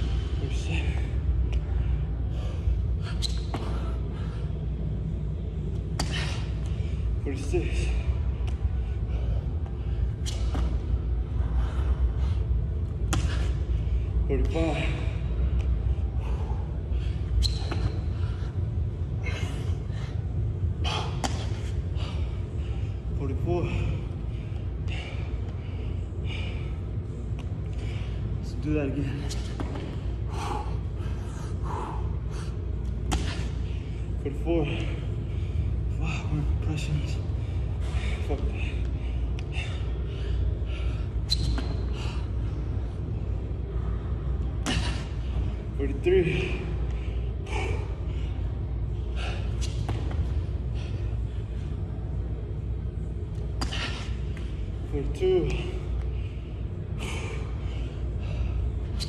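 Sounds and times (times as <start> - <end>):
man breathing hard: 0.0 - 59.0
steady low hum: 0.0 - 59.0
steady low rumble: 0.0 - 59.0.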